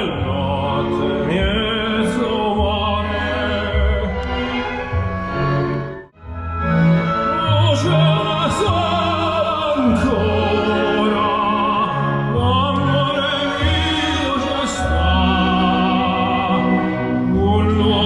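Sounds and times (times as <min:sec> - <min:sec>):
opera singing with orchestra: 0:00.0 - 0:05.0, 0:06.8 - 0:18.0.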